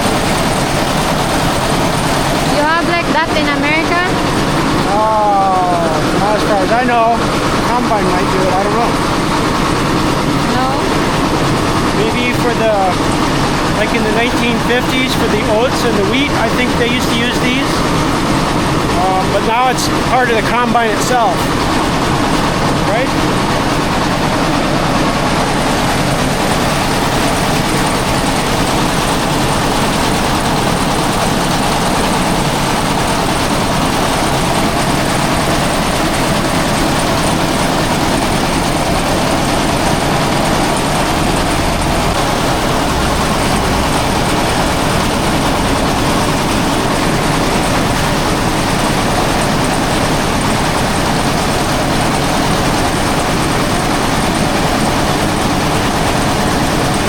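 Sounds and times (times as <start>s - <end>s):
threshing machine running: 0.0s - 57.0s.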